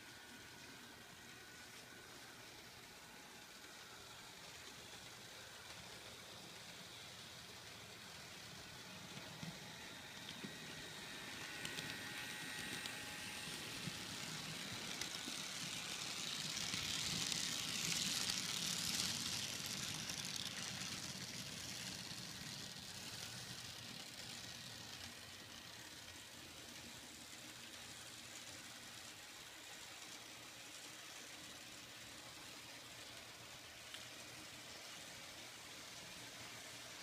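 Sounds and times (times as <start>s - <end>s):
model train whirring: 0.0s - 37.0s.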